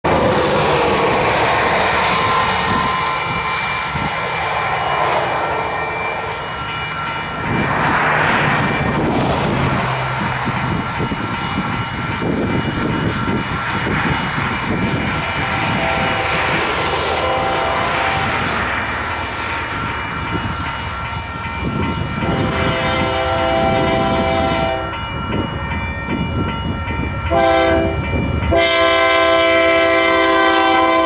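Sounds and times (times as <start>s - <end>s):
diesel freight train approaching: 0.0s - 31.0s
crossing warning bell ringing: 0.1s - 31.0s.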